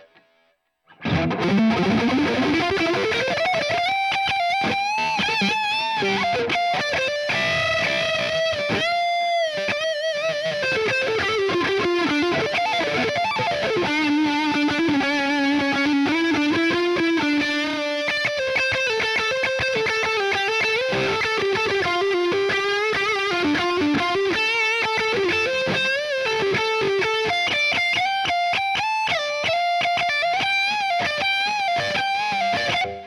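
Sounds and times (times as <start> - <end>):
electric guitar lead line: 0.0 - 33.0.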